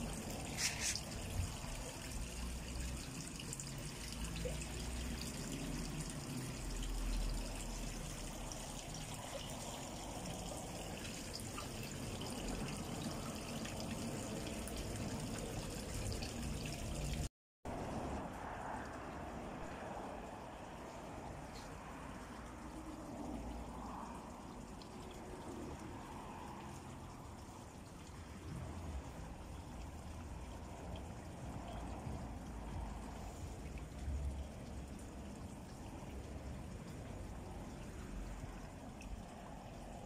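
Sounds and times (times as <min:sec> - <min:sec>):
stream water trickling: 0:00.0 - 0:40.0.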